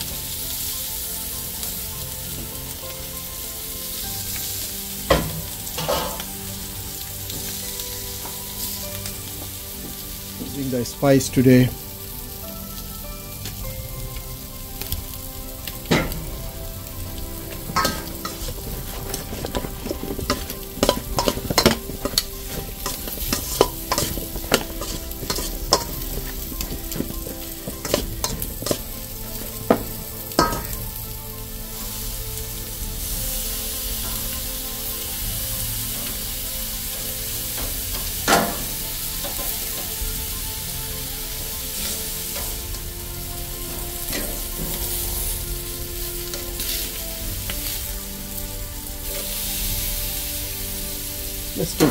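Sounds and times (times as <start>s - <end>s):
fish sizzling on grill: 0.0s - 51.9s.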